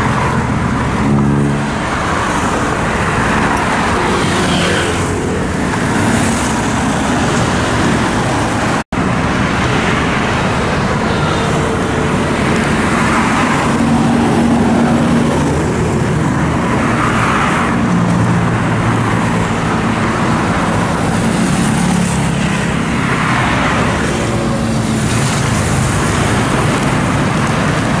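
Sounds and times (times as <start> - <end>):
engines and tyre noise: 0.0 - 28.0
vehicles passing: 0.0 - 28.0.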